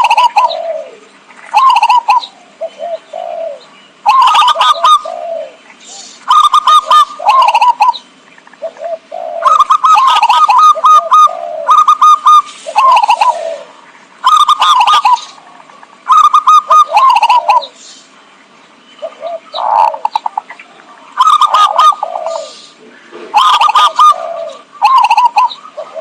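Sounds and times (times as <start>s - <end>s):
soft low dove coos: 0.0s - 8.0s, 8.6s - 17.8s, 19.0s - 26.0s
doves cooing in stuttering phrases: 0.0s - 17.8s, 18.7s - 26.0s.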